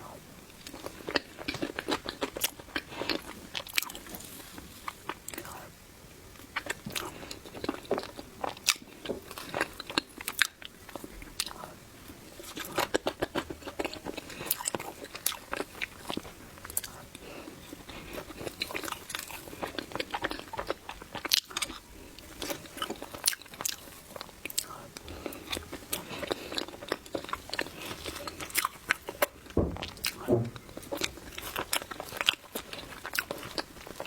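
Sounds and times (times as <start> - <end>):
person chewing soft cake: 0.1 - 34.0.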